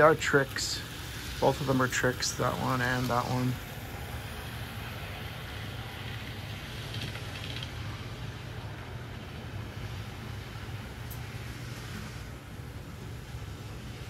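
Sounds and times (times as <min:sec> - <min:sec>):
model trains running on track: 0:00.0 - 0:14.0.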